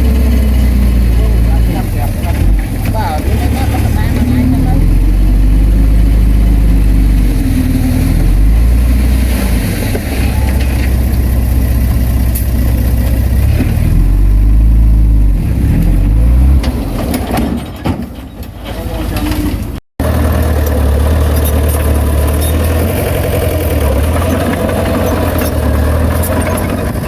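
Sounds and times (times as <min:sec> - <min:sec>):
heavy machine diesel engine: 0:00.0 - 0:27.0.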